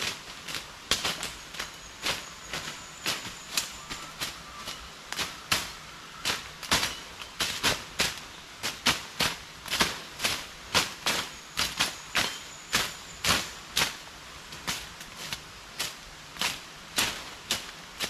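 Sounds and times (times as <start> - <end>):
machetes slashing undergrowth: 0.0 - 14.0, 14.6 - 18.0.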